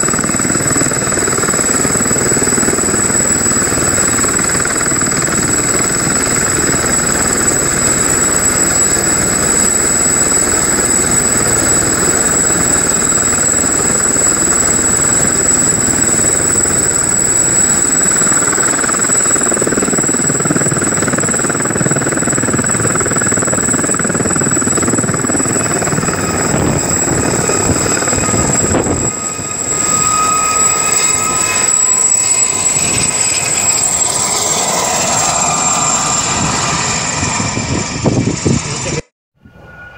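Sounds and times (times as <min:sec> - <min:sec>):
helicopter rotor and engine: 0:00.0 - 0:39.9
high turbine whine: 0:00.0 - 0:39.9.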